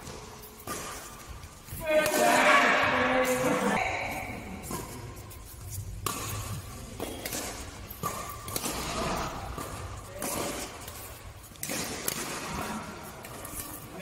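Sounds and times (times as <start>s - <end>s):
rackets hitting shuttlecock: 0.0s - 14.0s.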